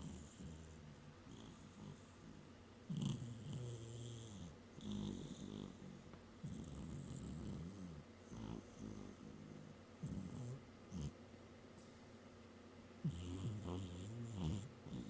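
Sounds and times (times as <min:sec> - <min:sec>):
cat snoring: 0:00.0 - 0:11.2, 0:13.0 - 0:15.0.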